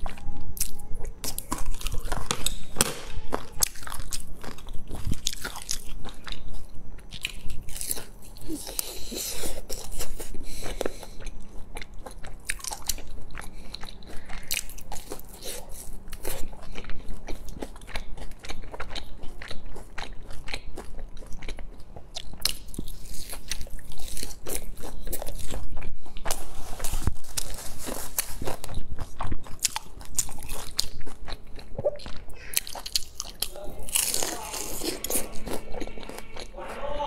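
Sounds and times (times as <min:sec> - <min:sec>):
crunchy biting and chewing: 0:00.0 - 0:36.8.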